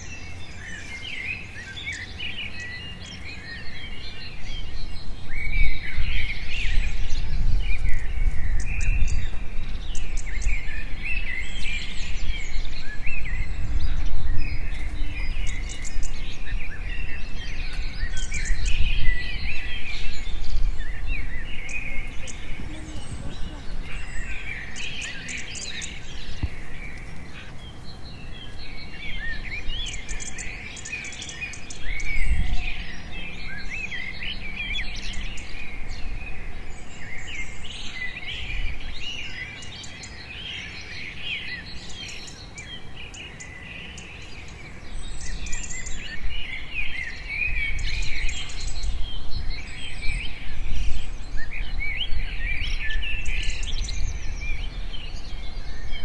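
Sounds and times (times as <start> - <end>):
many birds chirping: 0.0 - 56.0.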